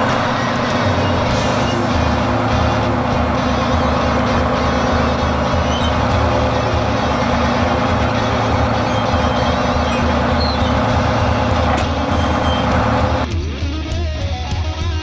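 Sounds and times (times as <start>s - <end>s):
fire truck engine idling: 0.0s - 13.3s.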